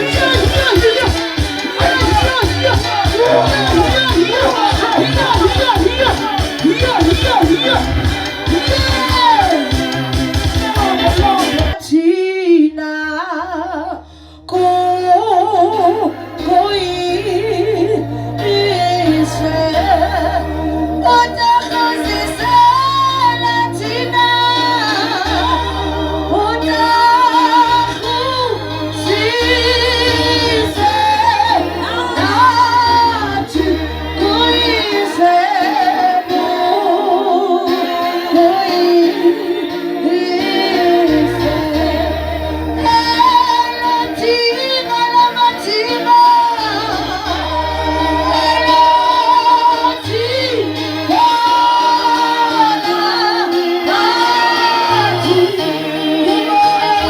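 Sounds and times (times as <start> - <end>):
keyboard with bass notes: 0.0 - 57.0
women singing gospel: 0.0 - 57.0.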